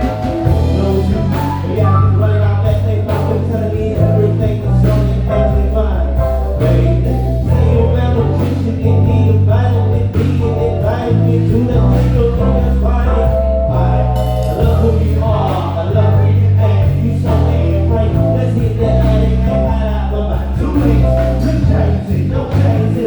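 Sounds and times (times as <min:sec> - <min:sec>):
keys and lead melody: 0:00.0 - 0:23.0
live band playing soul-gospel music: 0:00.0 - 0:23.0
loud bass line: 0:00.0 - 0:23.0
steady drums: 0:00.0 - 0:23.0.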